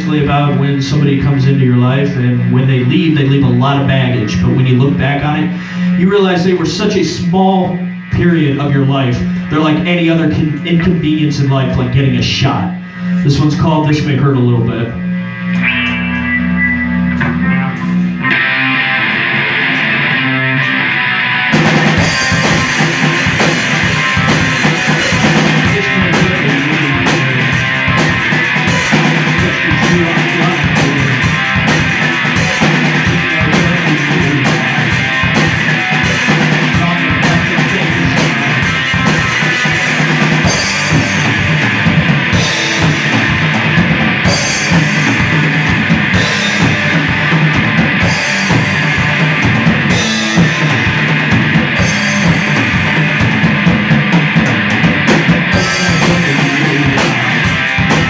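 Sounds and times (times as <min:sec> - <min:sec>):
distorted electric guitar: 0:00.0 - 0:58.0
low guitar and bass notes: 0:00.0 - 0:58.0
rock band playing: 0:00.0 - 0:58.0.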